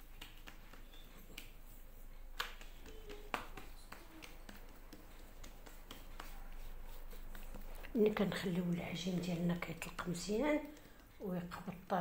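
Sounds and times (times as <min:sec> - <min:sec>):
hands handling dough: 0:00.0 - 0:11.9.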